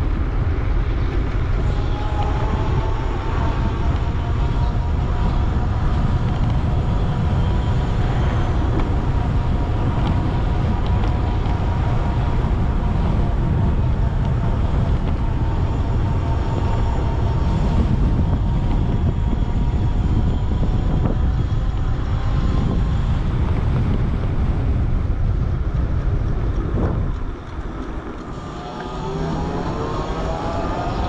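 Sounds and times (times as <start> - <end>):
wind buffeting microphone: 0.0 - 31.0
electric motor whine: 0.1 - 25.8, 26.6 - 31.0.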